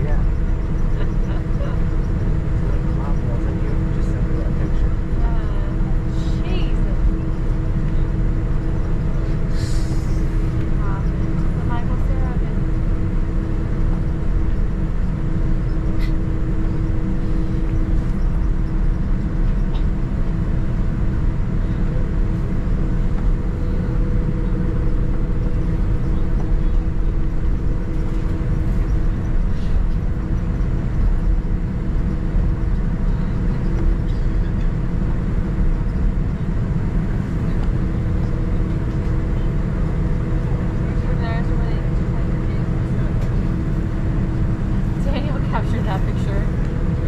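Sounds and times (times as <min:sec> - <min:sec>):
airliner cabin rumble: 0:00.0 - 0:47.0
faint steady hums: 0:00.0 - 0:47.0.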